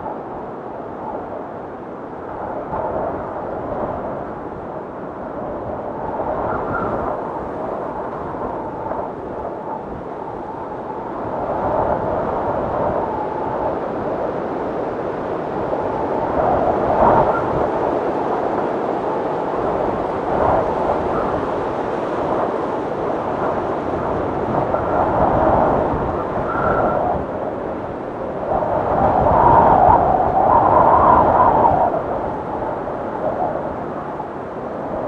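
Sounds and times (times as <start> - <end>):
blizzard wind blowing hard: 0.0 - 35.0
high wind whistle: 5.4 - 35.0.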